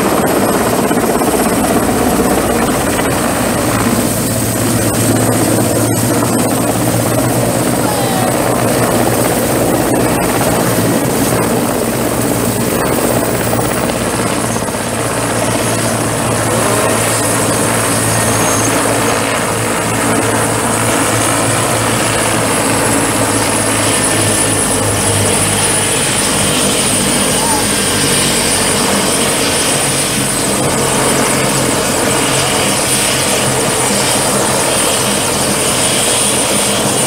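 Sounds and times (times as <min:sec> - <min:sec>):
helicopter rotor drone: 0:00.0 - 0:37.0
turbine whine: 0:00.0 - 0:37.0.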